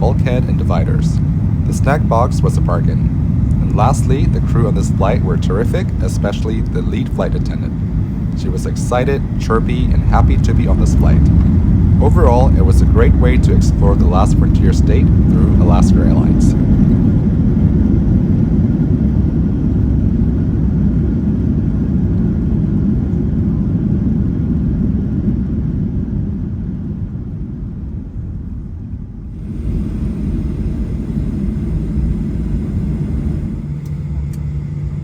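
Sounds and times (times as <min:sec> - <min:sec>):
airplane engine rumble in cabin: 0:00.0 - 0:35.0
engine hum with high whine: 0:00.0 - 0:35.0.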